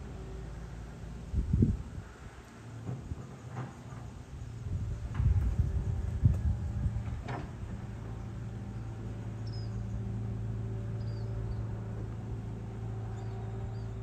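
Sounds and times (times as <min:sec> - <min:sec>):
distant excavator engine droning: 0:00.0 - 0:14.0.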